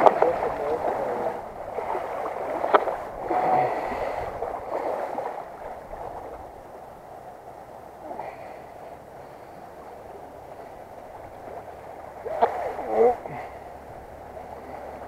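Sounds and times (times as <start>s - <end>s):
river water sloshing: 0.0s - 15.0s.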